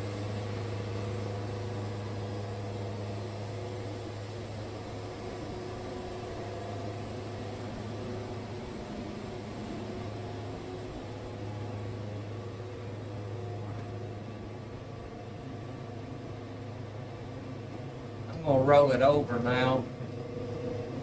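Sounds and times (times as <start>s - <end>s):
sawmill engine humming: 0.0s - 21.0s.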